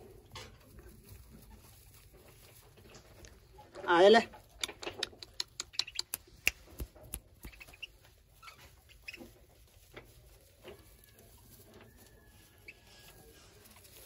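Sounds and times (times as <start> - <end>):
birds pecking on bedding: 0.0 - 14.0.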